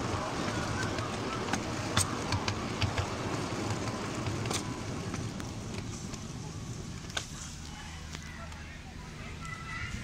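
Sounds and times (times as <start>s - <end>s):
miniature train rumbling: 0.0s - 10.0s.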